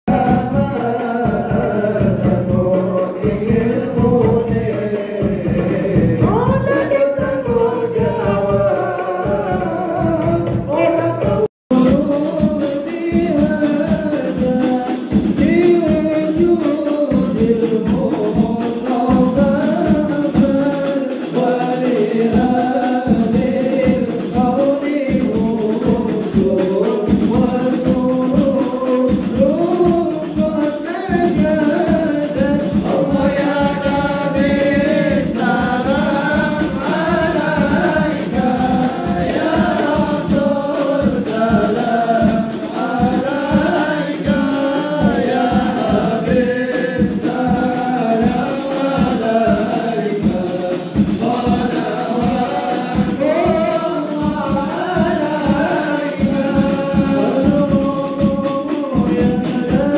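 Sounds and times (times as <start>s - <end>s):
jingling hand percussion: 0.1s - 59.9s
voices singing melody: 0.1s - 59.9s.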